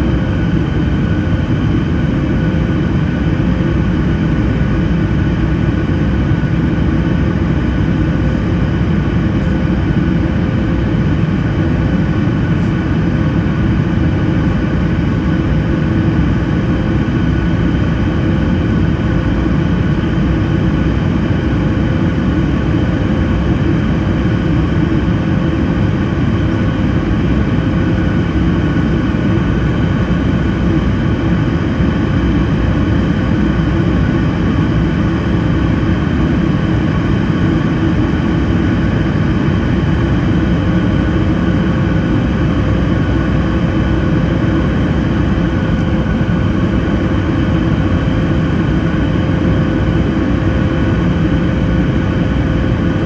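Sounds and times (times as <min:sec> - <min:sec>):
airplane cabin engine drone: 0:00.0 - 0:53.0
faint steady engine whine: 0:00.0 - 0:53.0.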